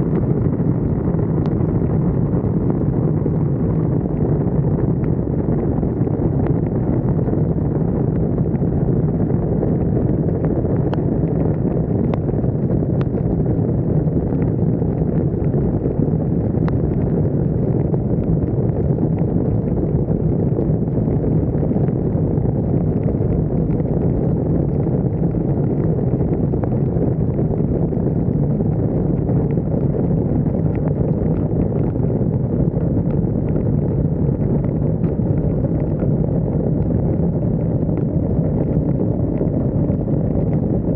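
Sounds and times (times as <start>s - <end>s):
wind rush: 0.0s - 40.9s.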